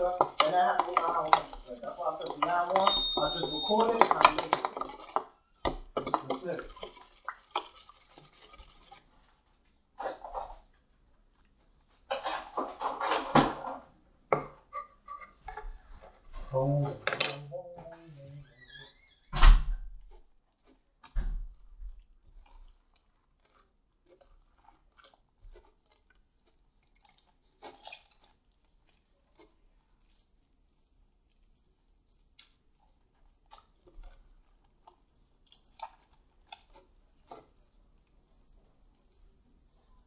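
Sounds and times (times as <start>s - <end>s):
slime squishing by hand: 0.0s - 13.0s, 19.9s - 40.0s.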